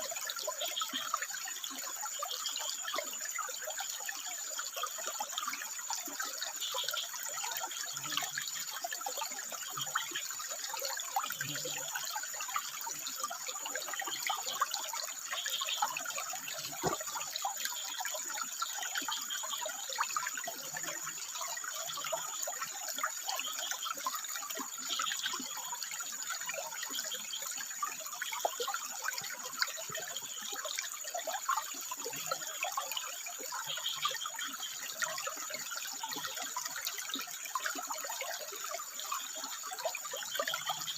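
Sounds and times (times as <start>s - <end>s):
water trickling over rocks: 0.0s - 40.9s.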